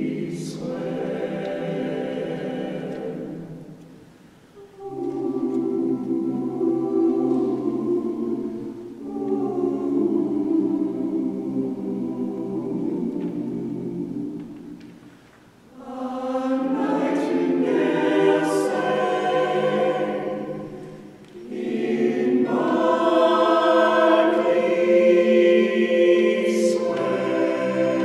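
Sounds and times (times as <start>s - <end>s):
a cappella vocal ensemble singing: 0.0s - 28.0s.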